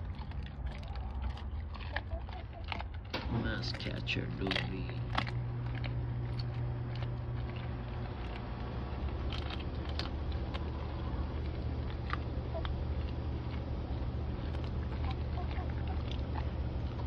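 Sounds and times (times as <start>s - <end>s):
dog chewing meat: 0.0s - 17.0s
steady low hum: 0.0s - 17.0s.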